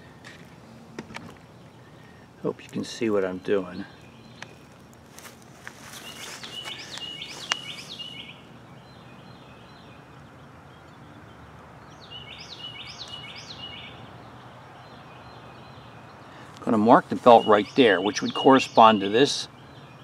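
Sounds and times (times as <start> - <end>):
low steady background noise: 0.0 - 20.0
songbird chirping: 1.0 - 20.0.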